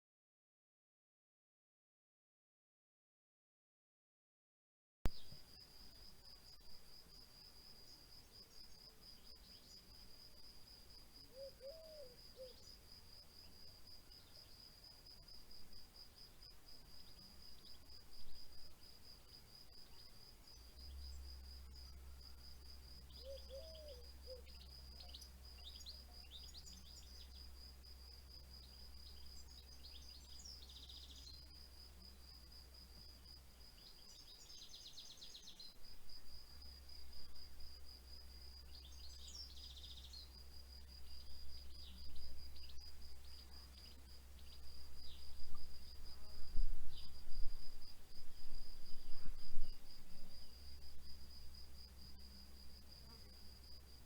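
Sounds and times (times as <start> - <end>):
cricket chirping: 5.1 - 54.0.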